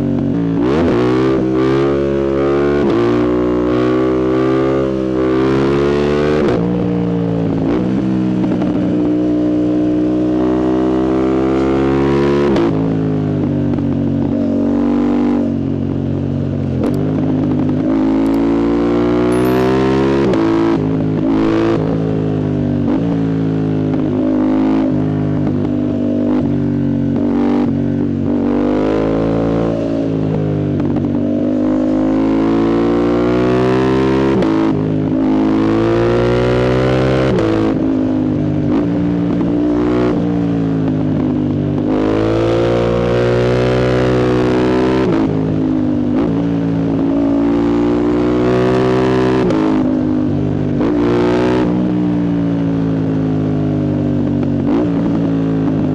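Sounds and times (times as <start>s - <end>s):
motorcycle engine accelerating: 0.1s - 55.9s.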